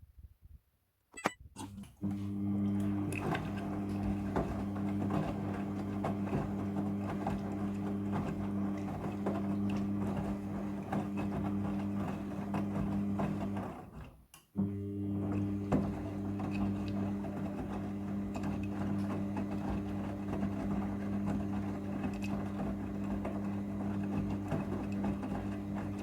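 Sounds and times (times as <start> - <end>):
washing machine motor hum: 1.6 - 26.0.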